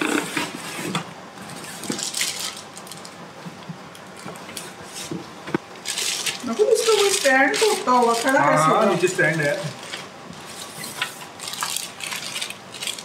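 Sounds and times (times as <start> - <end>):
plastic wrapping rustling: 0.0 - 3.2, 5.8 - 13.0.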